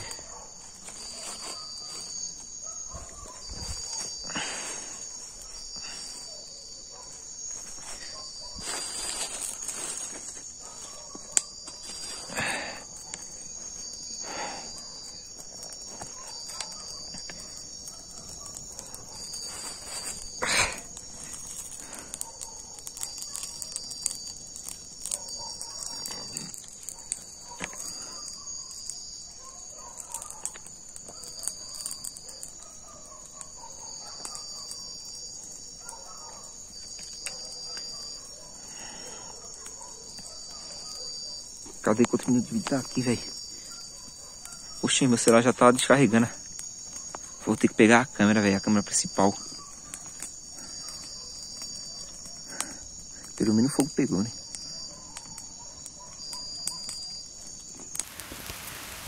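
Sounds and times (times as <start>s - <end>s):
campfire crackling: 0.0s - 59.0s
crickets trilling: 0.0s - 59.0s.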